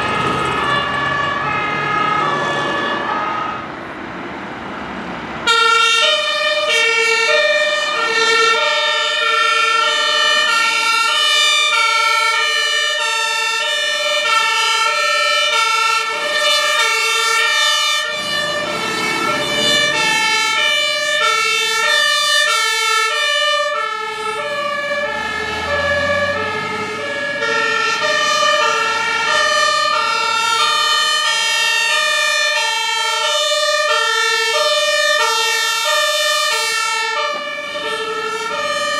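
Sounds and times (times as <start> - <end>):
passing vehicle rumble: 0.0 - 13.0, 13.6 - 38.9
two-tone emergency sirens: 0.0 - 38.9.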